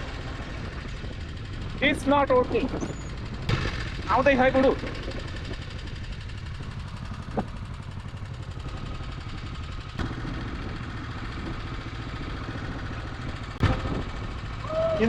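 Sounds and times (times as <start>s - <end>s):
go-kart engine rumbling: 0.0s - 15.0s.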